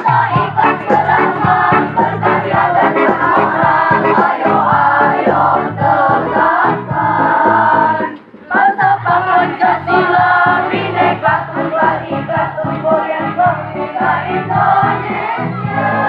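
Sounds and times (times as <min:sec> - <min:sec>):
choir singing a march: 0:00.0 - 0:16.0
instrumental backing: 0:00.0 - 0:16.0.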